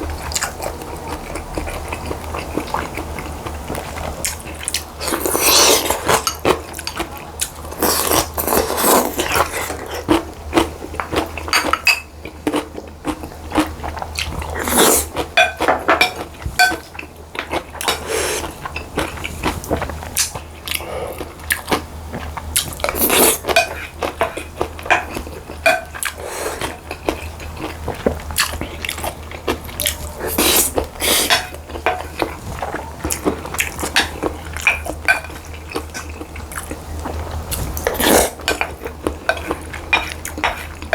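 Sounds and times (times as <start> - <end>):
chewing and crunching: 0.0 - 40.9
steady low hum: 0.0 - 40.9.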